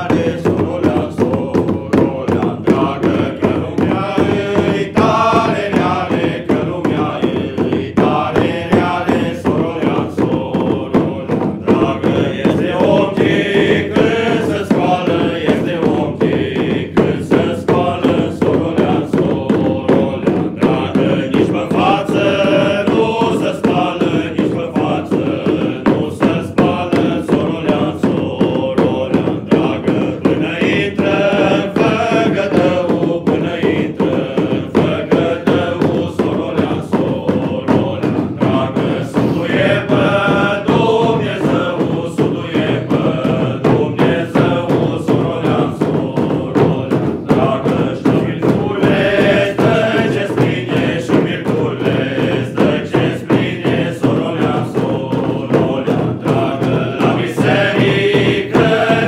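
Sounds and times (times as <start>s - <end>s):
frame drums beaten with sticks: 0.0s - 59.0s
group singing a carol: 0.0s - 59.0s.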